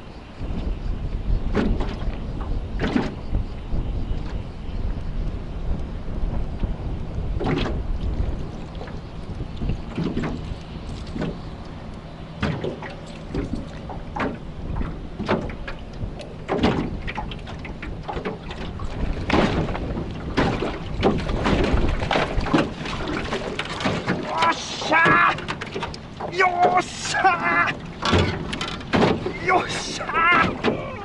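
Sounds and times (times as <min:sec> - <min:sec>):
choppy water splashing: 0:00.0 - 0:31.0
wind buffeting microphone: 0:00.0 - 0:31.0.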